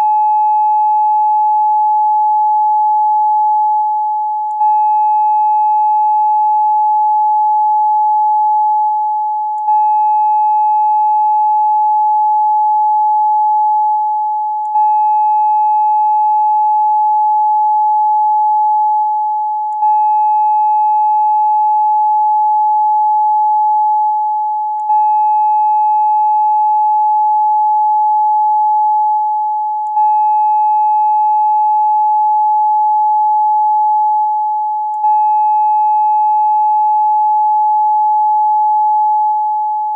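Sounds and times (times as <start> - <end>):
steady pure tone: 0.0 - 39.9.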